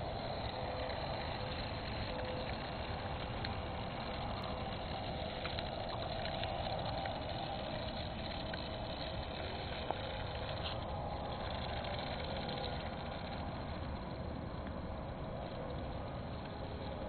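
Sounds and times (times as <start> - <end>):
electric motor and propeller buzzing: 0.0 - 17.0.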